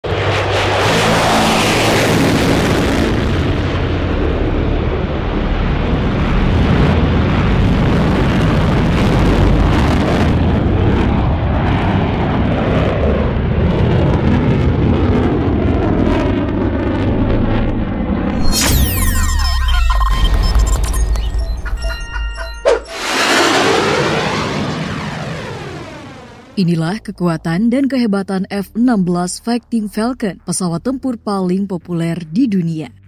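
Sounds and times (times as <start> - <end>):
jet engine roar: 0.0 - 26.6.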